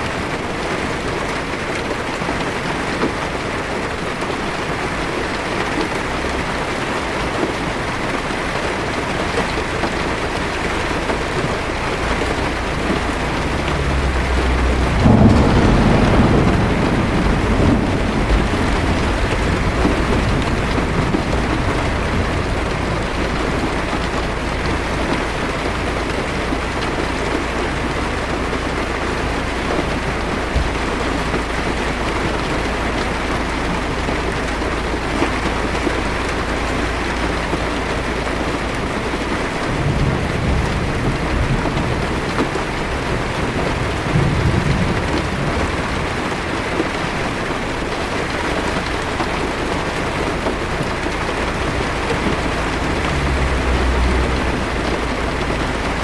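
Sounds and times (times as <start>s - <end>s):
heavy rain on a car roof: 0.0s - 56.0s
low thunder rumbling: 0.0s - 56.0s.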